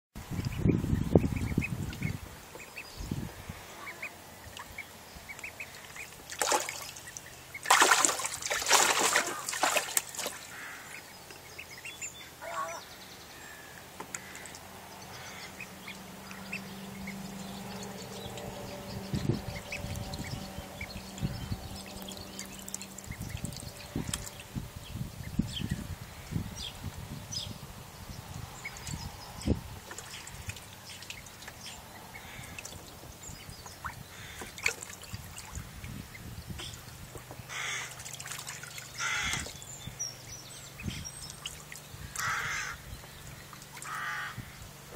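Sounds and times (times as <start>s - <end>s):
ducklings calling: 0.3s - 12.9s, 14.1s - 26.8s, 28.4s - 36.8s, 37.4s - 44.7s.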